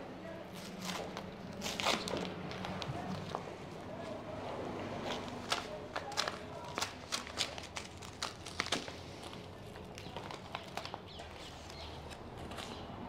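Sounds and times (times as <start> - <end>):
paper envelope tearing: 0.5 - 3.4, 5.0 - 12.8.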